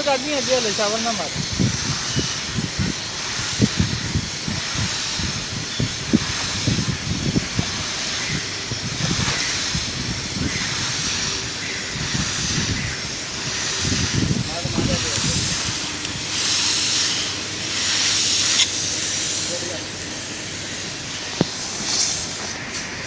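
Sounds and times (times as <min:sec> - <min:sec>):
foam spray gun hissing: 0:00.0 - 0:23.0.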